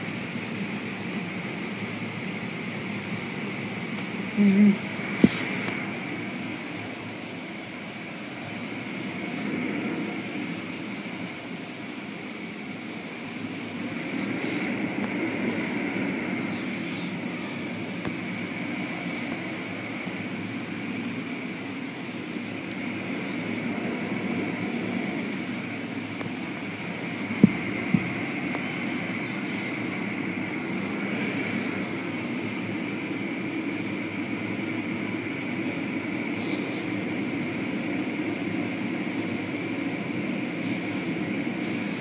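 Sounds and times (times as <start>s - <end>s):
car wash machinery and water rumble: 0.0s - 42.0s
constant high whine: 0.0s - 42.0s.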